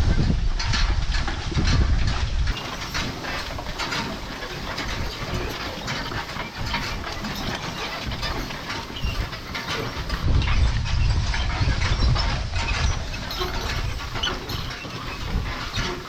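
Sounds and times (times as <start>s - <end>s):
farm equipment rattling and clanking: 0.0s - 16.0s.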